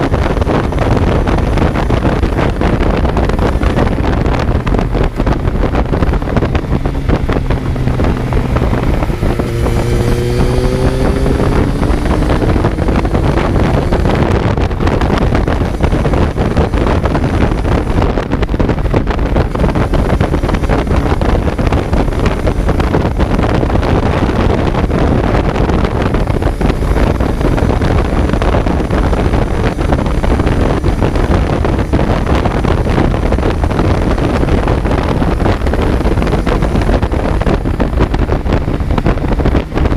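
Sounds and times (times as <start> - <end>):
motorcycle engine accelerating: 0.0 - 39.9
road noise: 0.0 - 39.9
wind rush on microphone: 0.0 - 39.9.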